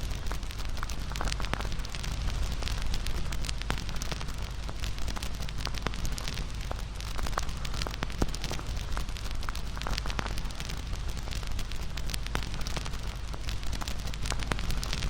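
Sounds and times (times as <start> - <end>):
low rush of burning: 0.0 - 15.0
wood fire crackling and popping: 0.0 - 15.0.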